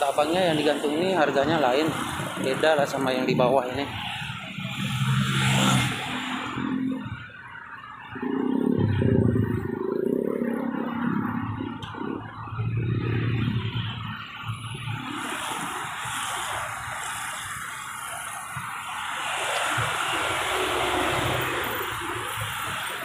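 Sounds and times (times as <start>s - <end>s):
vehicle engine rumble: 0.0s - 19.0s
traffic noise: 0.0s - 23.0s.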